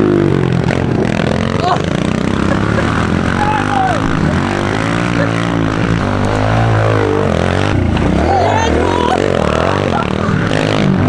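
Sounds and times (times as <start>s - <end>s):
small motorbike engines racing: 0.0s - 11.0s.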